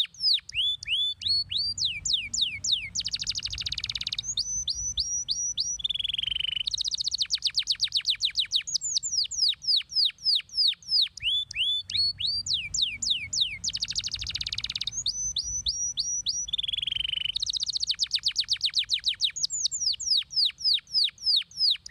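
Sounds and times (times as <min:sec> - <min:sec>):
canary singing: 0:00.0 - 0:21.9.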